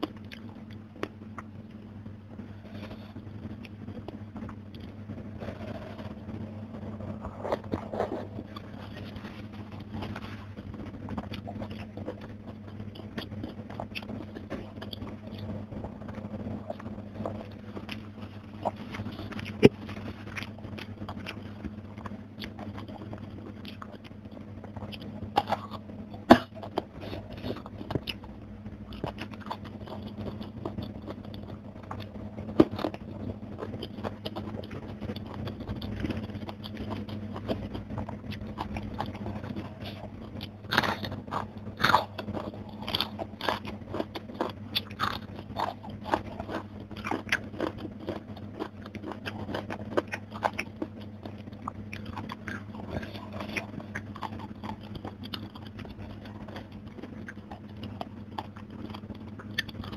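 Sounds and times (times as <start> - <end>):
crunching food: 0.0 - 59.9
wet chewing: 0.0 - 59.9.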